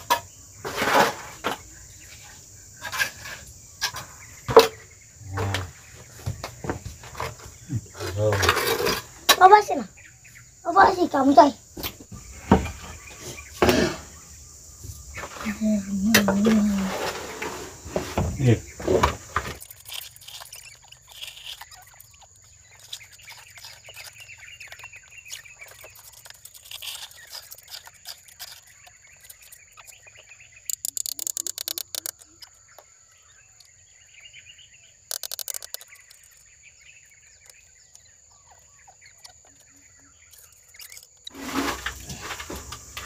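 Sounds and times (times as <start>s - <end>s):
birds chirping: 0.0s - 43.0s
high-pitched insect drone: 0.0s - 43.0s.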